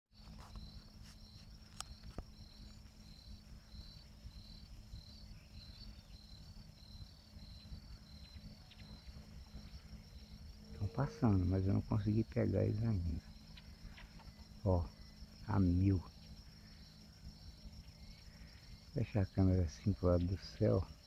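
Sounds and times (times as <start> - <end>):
insect chirping: 0.2 - 21.0.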